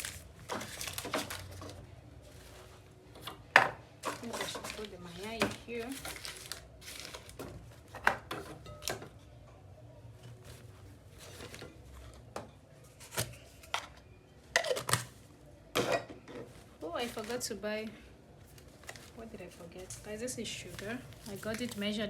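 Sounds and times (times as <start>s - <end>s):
groceries knocking and clicking: 0.0s - 9.2s, 10.2s - 15.2s, 15.8s - 17.6s, 18.5s - 22.0s.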